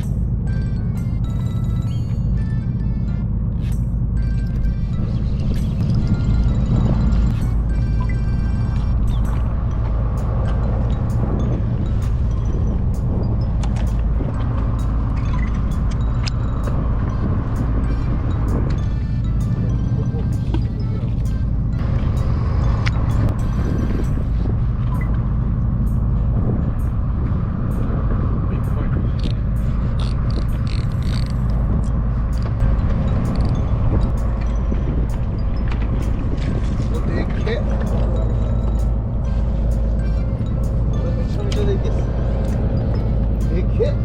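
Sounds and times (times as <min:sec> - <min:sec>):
boat motor rumbling: 0:00.0 - 0:44.0
diesel engine drone: 0:00.0 - 0:44.0.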